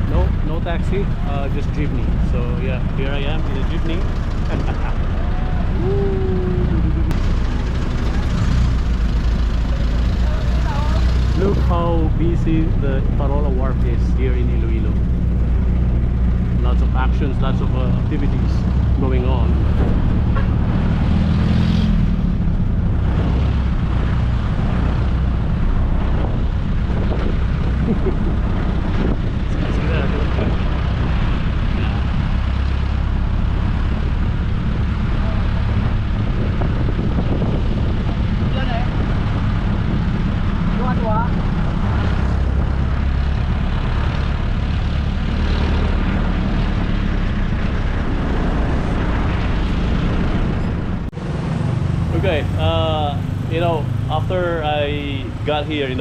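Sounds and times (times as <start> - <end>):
road and traffic noise: 0.0 - 56.0
vehicle engine droning: 0.0 - 56.0.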